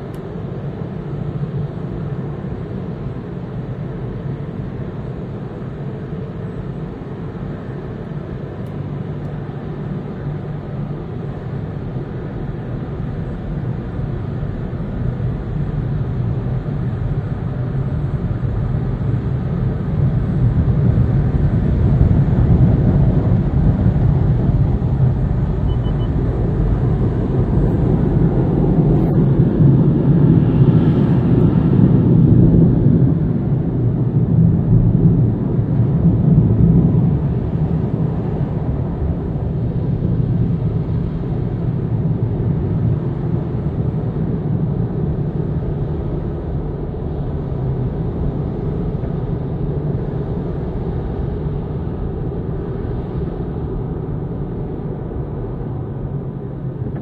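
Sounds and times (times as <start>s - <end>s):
muffled car wash rumble: 0.0s - 57.0s.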